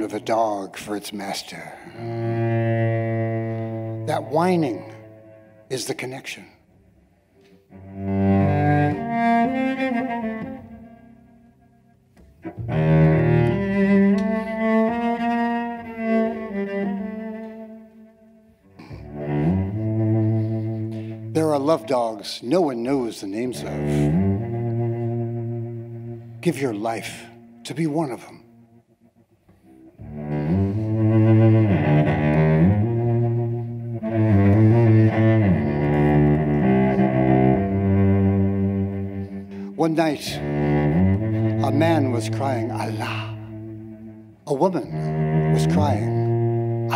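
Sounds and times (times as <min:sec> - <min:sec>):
bowed cello: 0:00.0 - 0:46.9.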